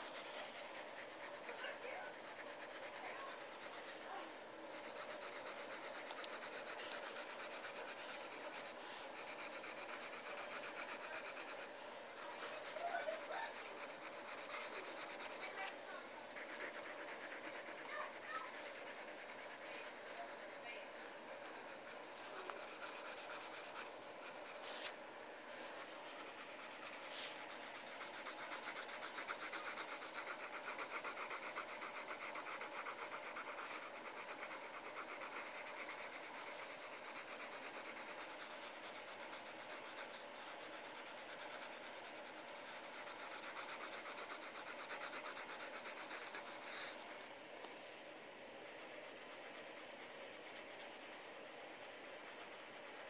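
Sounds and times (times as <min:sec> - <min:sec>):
pencil scratching on paper: 0:00.0 - 0:47.3, 0:48.6 - 0:53.0.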